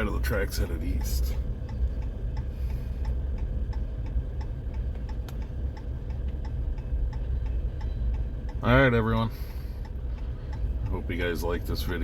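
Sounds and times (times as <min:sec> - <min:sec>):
low rumble: 0:00.0 - 0:12.0
steady ticking: 0:00.0 - 0:12.0.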